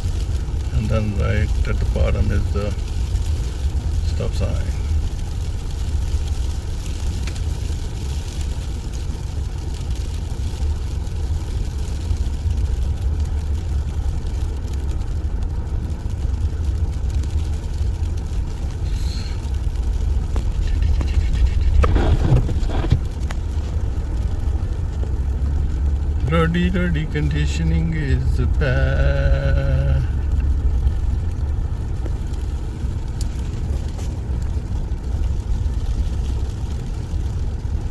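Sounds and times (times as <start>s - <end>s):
vehicle engine and tyres rumbling: 0.0s - 37.9s.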